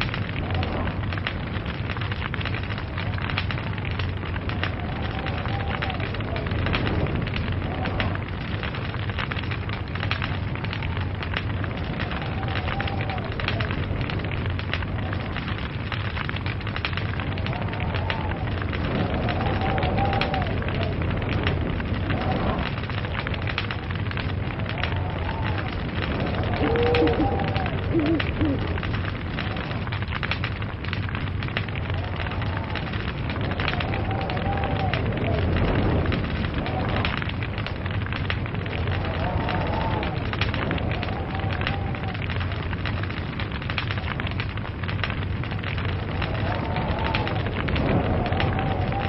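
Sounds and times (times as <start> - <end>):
low rumble of flame: 0.0 - 49.0
wood fire crackling: 0.0 - 49.0.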